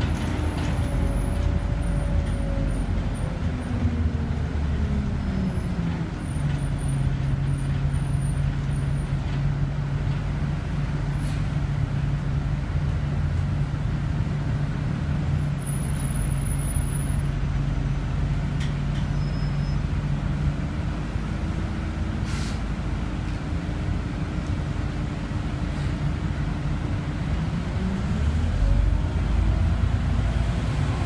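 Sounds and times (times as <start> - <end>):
bus engine hum: 0.0 - 31.0.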